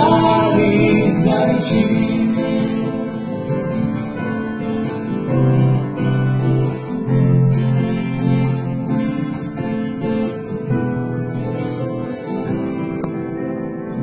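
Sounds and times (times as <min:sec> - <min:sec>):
acoustic guitar strumming: 0:00.0 - 0:14.0
piano accompaniment: 0:00.0 - 0:14.0.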